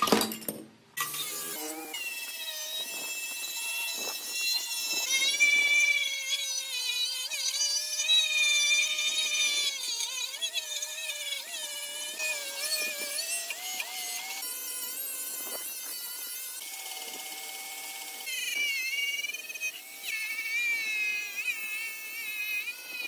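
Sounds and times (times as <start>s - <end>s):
power tool motor whine: 1.0s - 23.0s.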